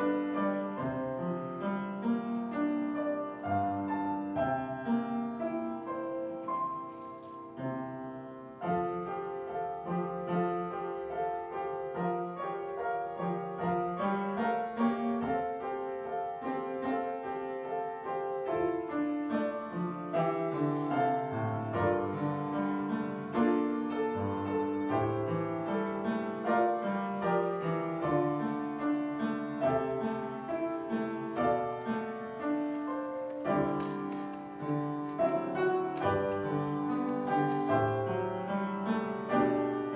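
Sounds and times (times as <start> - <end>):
slow solo piano prelude: 0.0 - 39.9.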